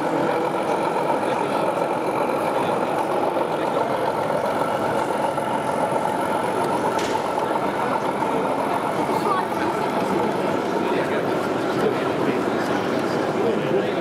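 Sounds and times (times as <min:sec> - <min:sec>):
model locomotive diesel engine sound: 0:00.0 - 0:14.0.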